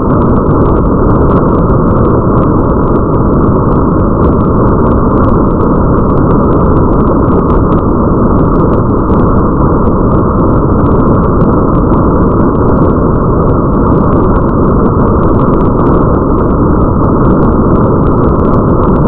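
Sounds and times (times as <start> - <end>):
heavy rain rumble: 0.0 - 19.0.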